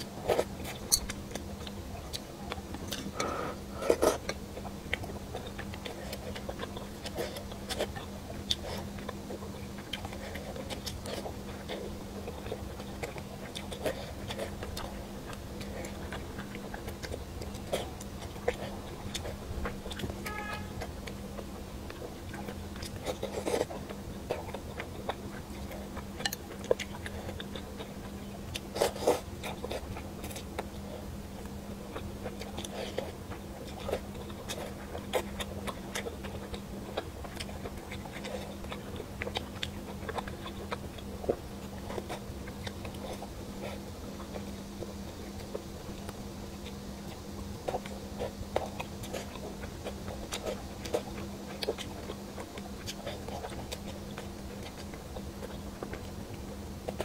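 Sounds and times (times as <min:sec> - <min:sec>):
chewing and wet mouth sounds: 0:00.0 - 0:57.0
low steady hum: 0:00.0 - 0:57.0.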